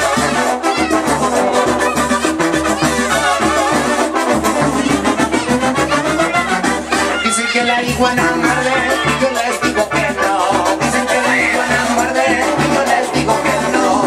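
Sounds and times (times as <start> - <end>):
brass band dance music: 0.0 - 14.0.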